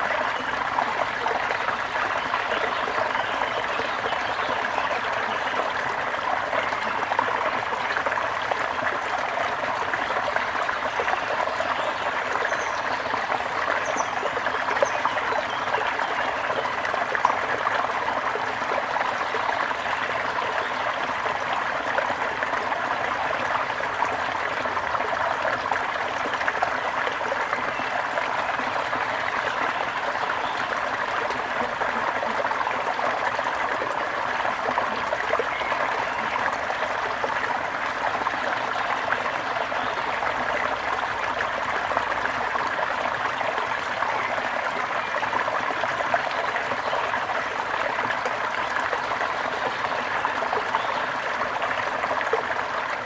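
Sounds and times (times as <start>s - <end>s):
brook water trickling: 0.0s - 53.0s.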